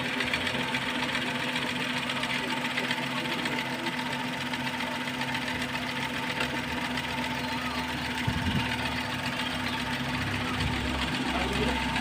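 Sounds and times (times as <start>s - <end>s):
car engine idling with ticking: 0.0s - 12.0s.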